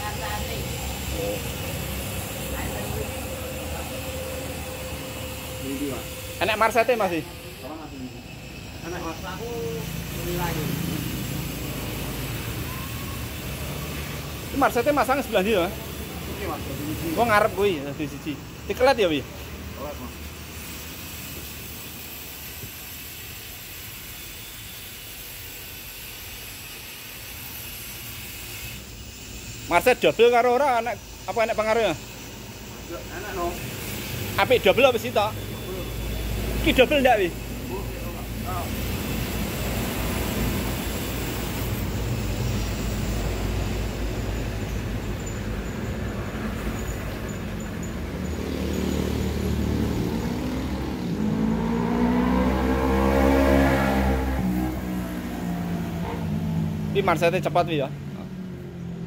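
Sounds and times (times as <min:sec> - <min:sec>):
vehicle engine: 0:00.0 - 0:27.9, 0:28.8 - 0:59.0
road traffic rumble: 0:00.0 - 0:59.0.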